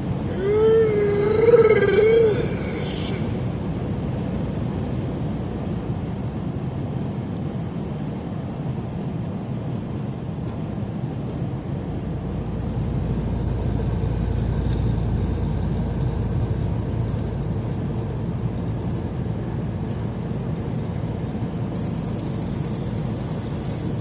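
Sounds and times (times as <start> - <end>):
truck engine and tyres droning: 0.0 - 24.0
wind through windows: 0.0 - 24.0.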